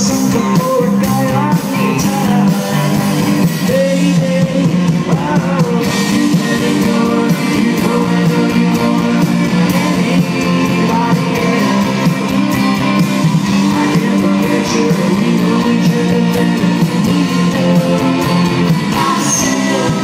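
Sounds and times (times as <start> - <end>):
bass guitar: 0.0 - 20.0
drums: 0.0 - 20.0
electric guitars: 0.0 - 20.0
person singing: 0.0 - 20.0.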